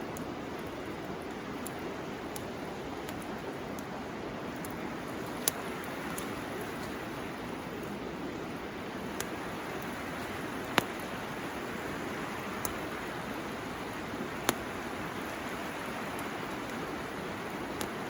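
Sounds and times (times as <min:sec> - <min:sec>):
bamboo fire popping and crackling: 0:00.0 - 0:18.0
river rushing: 0:00.0 - 0:18.0.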